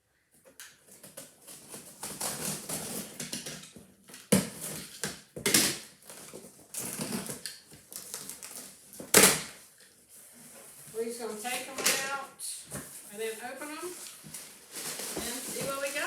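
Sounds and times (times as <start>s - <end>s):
packages crinkling and rustling: 0.4s - 16.0s.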